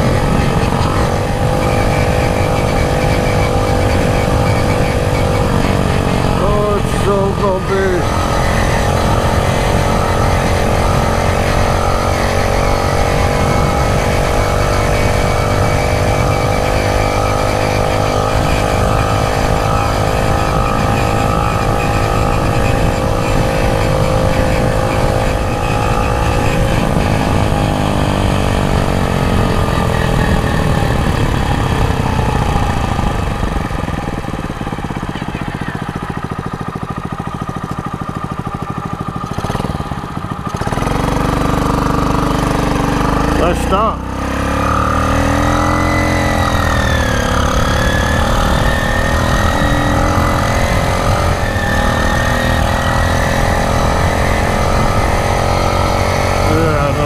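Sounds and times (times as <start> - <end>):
motorized bicycle engine running: 0.0 - 43.9, 44.8 - 57.0.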